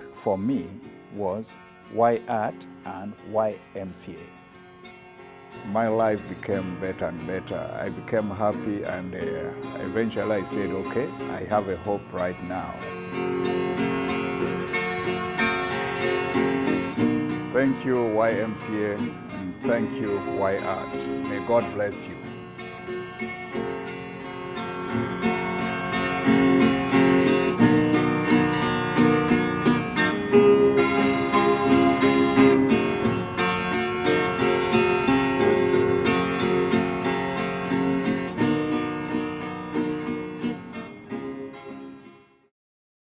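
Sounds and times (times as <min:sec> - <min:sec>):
acoustic guitar music: 0:00.0 - 0:42.5.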